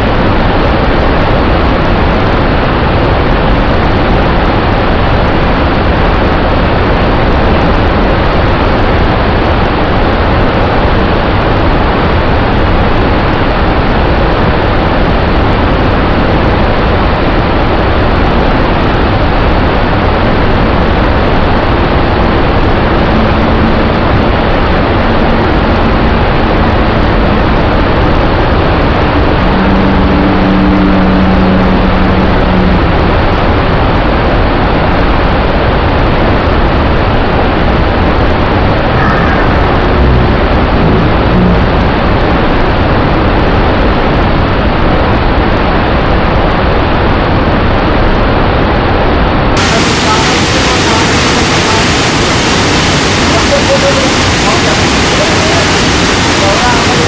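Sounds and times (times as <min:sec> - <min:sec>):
waterfall rushing: 0:00.0 - 0:34.6, 0:37.7 - 0:43.5, 0:49.6 - 0:57.0.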